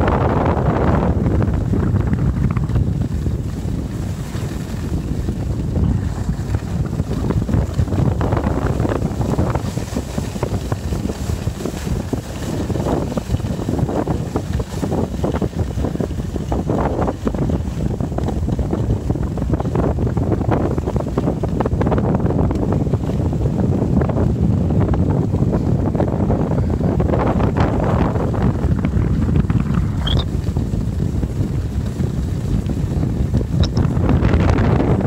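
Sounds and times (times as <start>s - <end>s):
wind rumbling on microphone: 0.0s - 35.0s.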